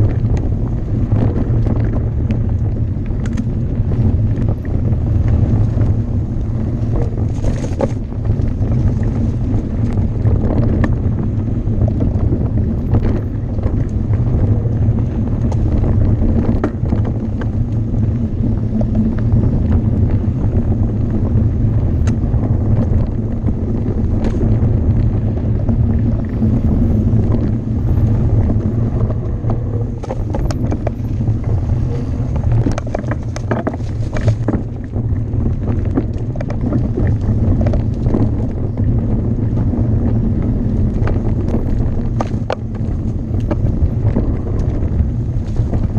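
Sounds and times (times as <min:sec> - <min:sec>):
bike rattling: 0:00.0 - 0:45.9
low rumble of tyres: 0:00.0 - 0:45.9
wind buffeting microphone: 0:00.0 - 0:45.9.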